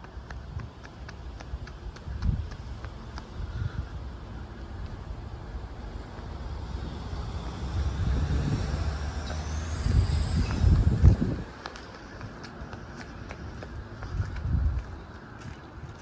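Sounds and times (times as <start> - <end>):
vehicle passing rumble: 0.0 - 16.0.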